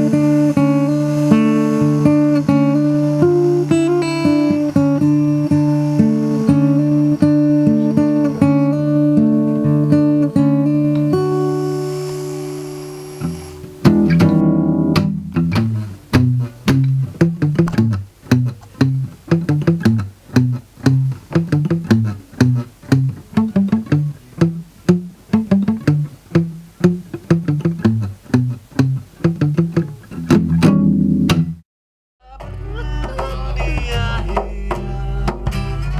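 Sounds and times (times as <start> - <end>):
guitar chords and riff: 0.0 - 31.6, 32.2 - 35.9.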